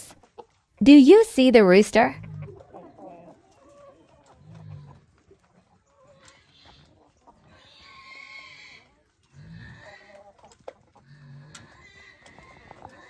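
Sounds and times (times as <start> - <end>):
chickens clucking softly: 0.0 - 0.8, 2.2 - 13.0.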